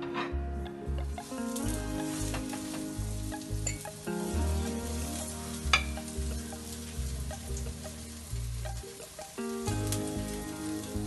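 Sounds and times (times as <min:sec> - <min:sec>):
patties sizzling in oil: 0:01.0 - 0:11.0.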